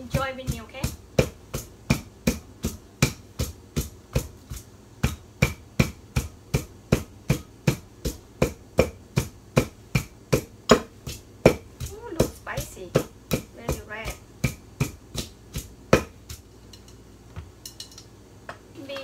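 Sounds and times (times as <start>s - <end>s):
wooden pestle pounding in mortar: 0.0s - 16.5s.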